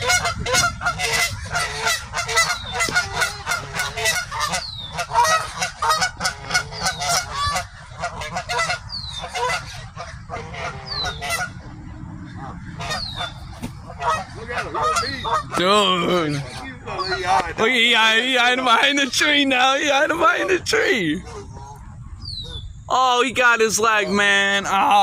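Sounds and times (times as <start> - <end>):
geese honking: 0.0 - 22.7.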